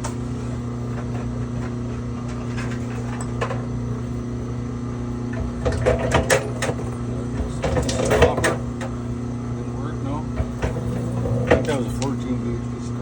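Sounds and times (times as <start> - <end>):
scrap wire rattling through machine: 0.0 - 12.4
wire-stripping machine motor hum: 0.0 - 13.0.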